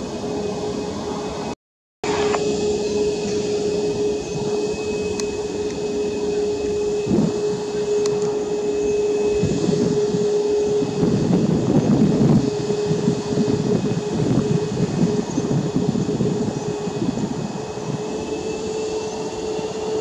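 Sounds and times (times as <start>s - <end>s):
jet engines at takeoff: 0.0s - 20.0s.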